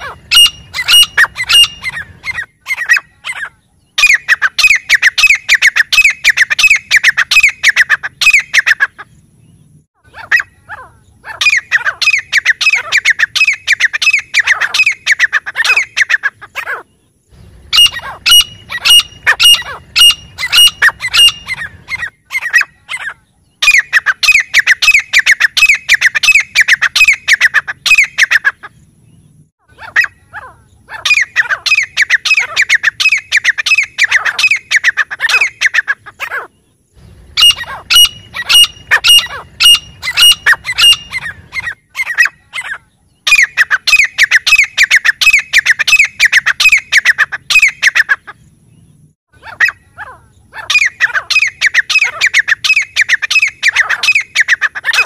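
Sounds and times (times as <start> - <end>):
bird calling shrill notes: 0.0 - 9.0, 9.9 - 16.9, 17.6 - 28.7, 29.6 - 36.6, 37.3 - 48.4, 49.4 - 55.0.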